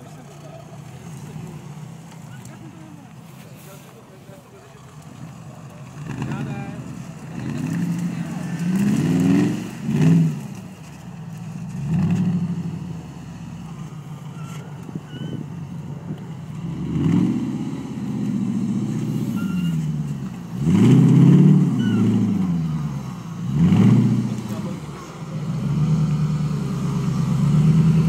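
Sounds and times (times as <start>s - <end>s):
buggy engine revving: 0.0s - 28.0s.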